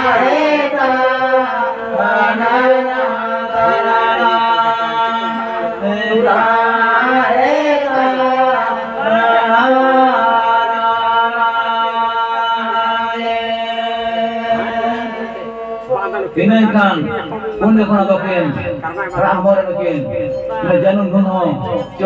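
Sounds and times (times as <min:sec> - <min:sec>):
voices singing a chant: 0:00.0 - 0:22.0.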